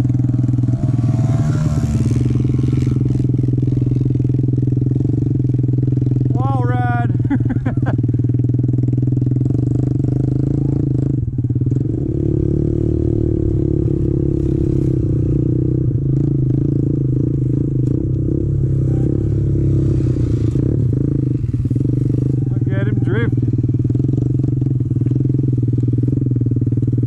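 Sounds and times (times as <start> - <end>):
motorbike engine under throttle: 0.0 - 27.0.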